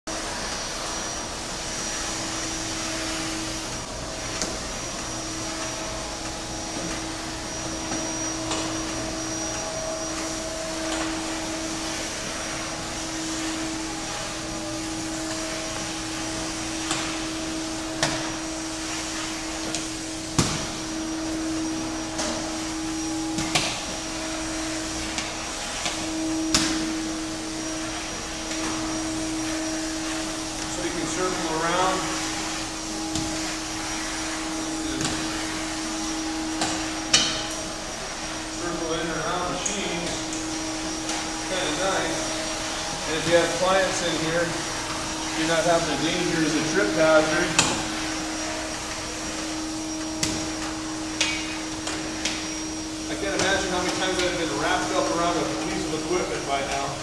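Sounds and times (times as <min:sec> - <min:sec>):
vacuum cleaner running: 0:00.1 - 0:57.0.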